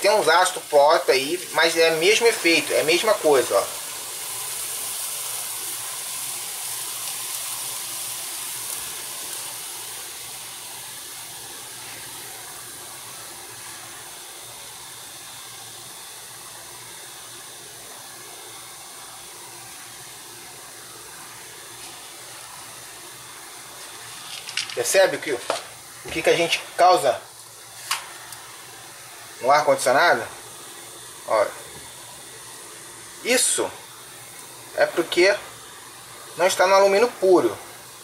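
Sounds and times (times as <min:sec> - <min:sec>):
acid fizzing on metal can: 0:00.0 - 0:38.0.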